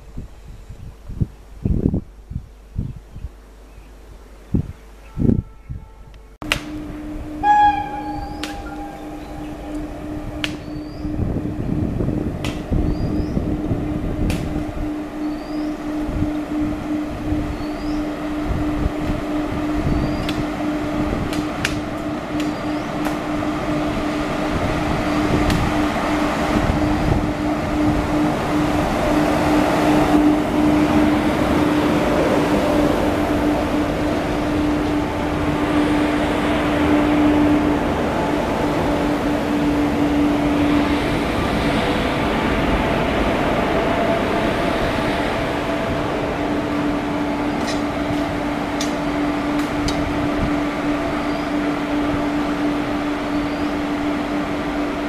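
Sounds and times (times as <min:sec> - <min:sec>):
rumble of train wheels: 0:00.0 - 0:55.0
locomotive blowers humming: 0:04.8 - 0:55.0.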